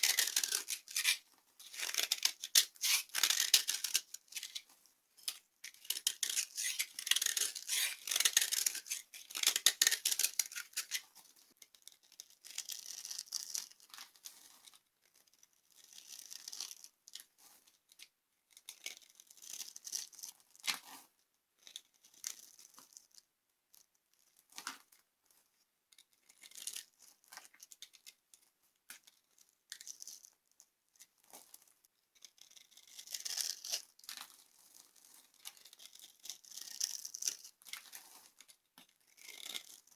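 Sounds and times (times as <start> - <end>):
dry soap crackling and crunching: 0.0 - 39.9.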